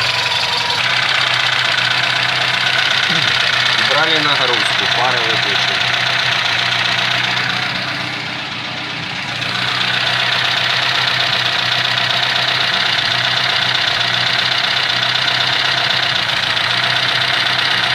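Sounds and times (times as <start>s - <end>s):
alternator whine: 0.0s - 17.9s
car engine idling: 0.0s - 17.9s.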